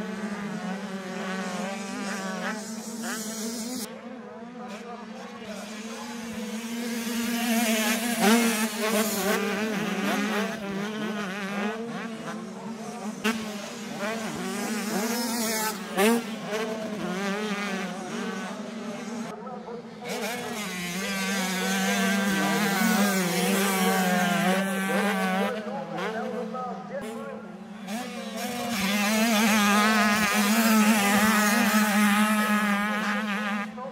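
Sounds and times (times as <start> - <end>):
motocross bikes revving: 0.0 - 3.9, 4.6 - 33.9
drone of motorbikes: 0.0 - 33.9.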